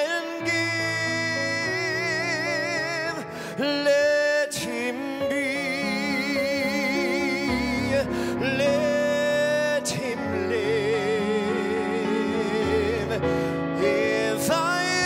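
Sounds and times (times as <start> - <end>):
grand piano: 0.0 - 15.0
man singing a slow ballad: 0.0 - 15.0.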